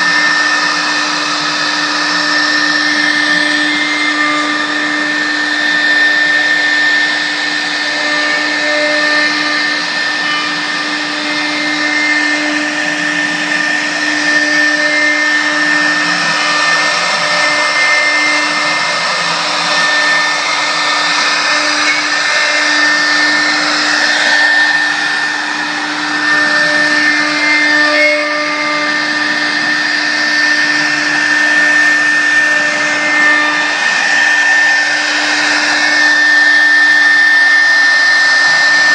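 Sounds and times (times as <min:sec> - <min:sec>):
router spindle high whine: 0:00.0 - 0:38.9.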